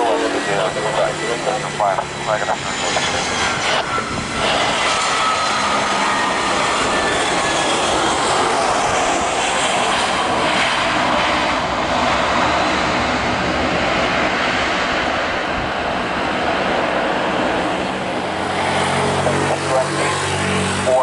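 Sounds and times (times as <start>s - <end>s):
airliner jet noise landing: 0.0s - 21.0s.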